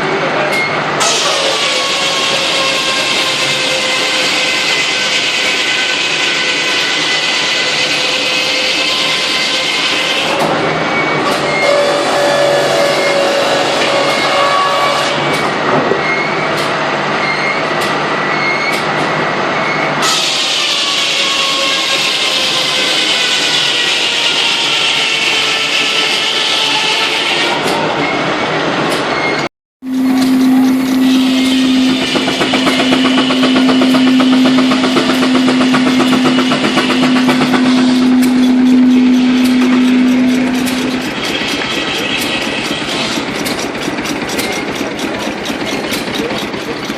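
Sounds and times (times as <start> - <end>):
sawmill machinery running: 0.0 - 29.1, 29.8 - 46.9.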